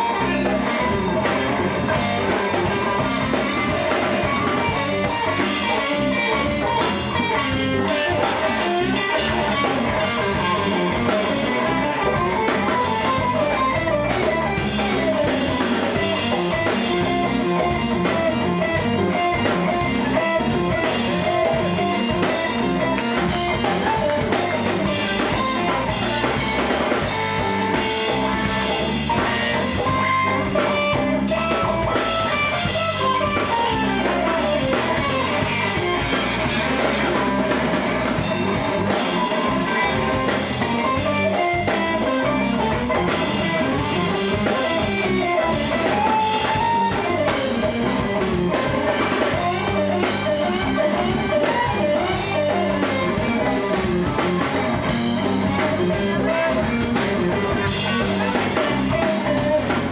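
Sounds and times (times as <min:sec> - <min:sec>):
drum kit: 0:00.0 - 0:59.9
electric guitar lead lines: 0:00.0 - 0:59.9.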